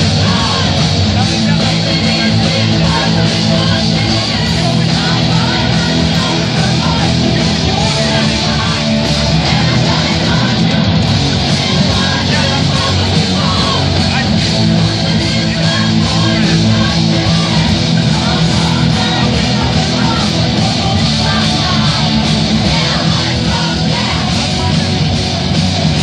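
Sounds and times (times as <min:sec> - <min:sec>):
drums: 0:00.0 - 0:26.0
electric guitars: 0:00.0 - 0:26.0
live rock music: 0:00.0 - 0:26.0
many voices singing: 0:00.0 - 0:26.0.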